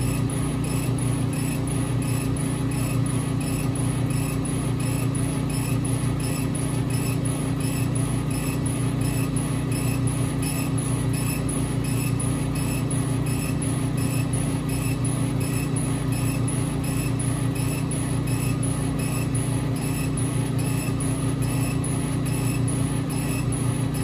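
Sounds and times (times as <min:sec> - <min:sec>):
low machine hum: 0:00.0 - 0:24.0
pulsing whir of engraving head: 0:00.0 - 0:24.0.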